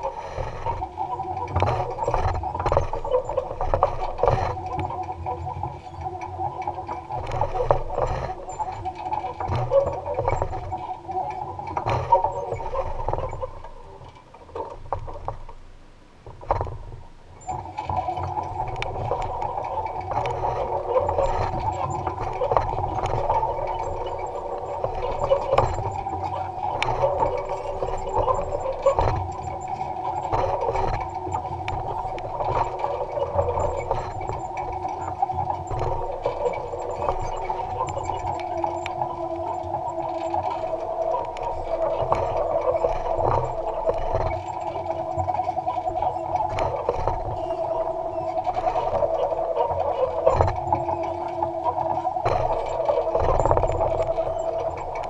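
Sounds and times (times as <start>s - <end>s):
implement rattling and clicking: 0.0s - 15.7s, 16.3s - 55.0s
steady mechanical hum: 0.0s - 55.0s.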